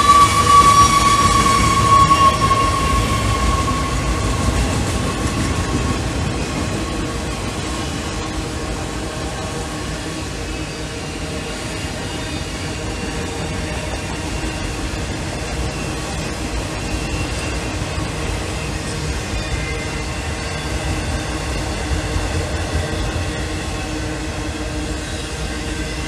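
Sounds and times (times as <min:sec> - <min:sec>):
freight cars rumbling and rattling: 0:00.0 - 0:26.0.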